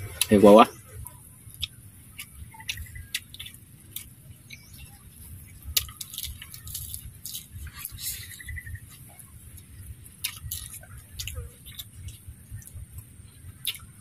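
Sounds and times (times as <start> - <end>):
person chewing and biting food: 1.0 - 14.0.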